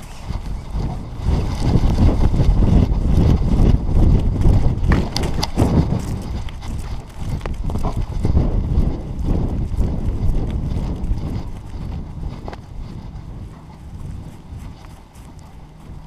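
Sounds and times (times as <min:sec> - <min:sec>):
thuds of dog running: 0:00.0 - 0:16.0
wind rumble on microphone: 0:00.0 - 0:16.0.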